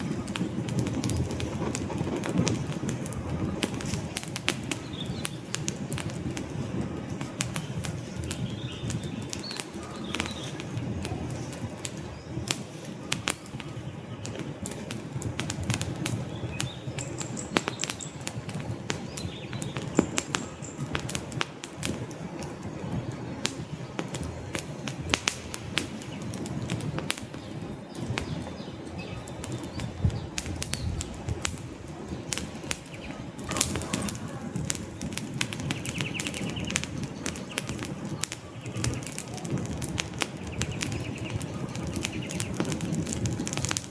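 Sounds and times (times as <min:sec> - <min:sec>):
low rush of flames: 0:00.0 - 0:43.9
wood fire crackling and popping: 0:00.0 - 0:43.9.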